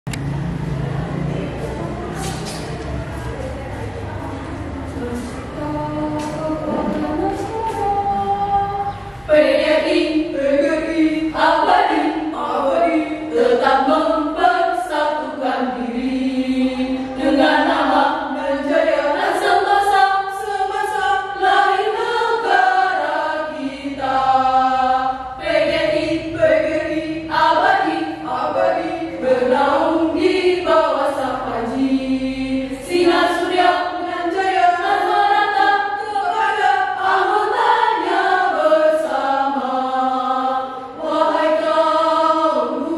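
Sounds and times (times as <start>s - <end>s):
women's choir singing: 0.2s - 42.9s.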